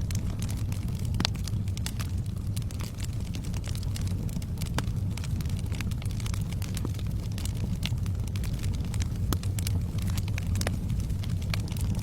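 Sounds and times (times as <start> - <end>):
fire rumbling: 0.0 - 12.0
logs crackling and popping: 0.0 - 12.0.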